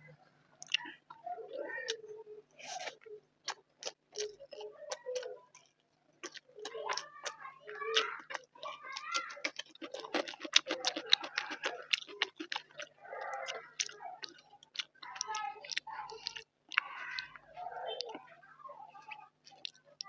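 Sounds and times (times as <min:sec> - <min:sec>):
wet chewing mouth clicks: 0:00.6 - 0:01.2, 0:01.9 - 0:18.2, 0:19.0 - 0:20.0.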